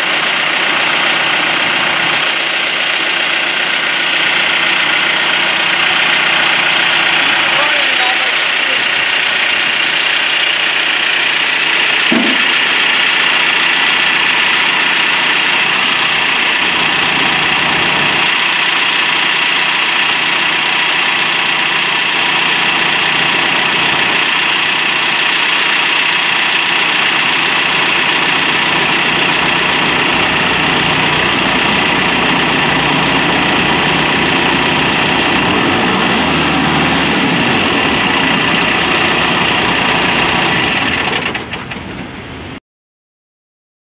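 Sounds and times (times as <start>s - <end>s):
engine idling: 0.0s - 42.6s.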